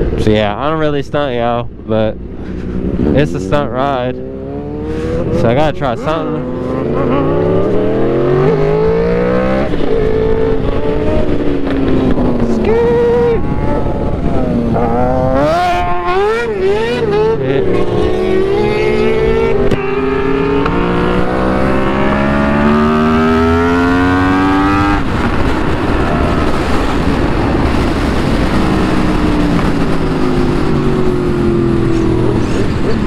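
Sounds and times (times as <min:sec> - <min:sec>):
motorcycle engine revving: 0:02.6 - 0:33.0.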